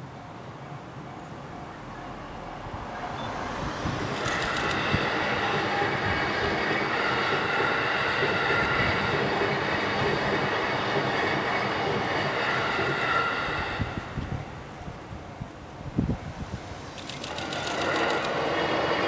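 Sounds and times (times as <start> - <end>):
train wheels rushing on rails: 0.0 - 19.0.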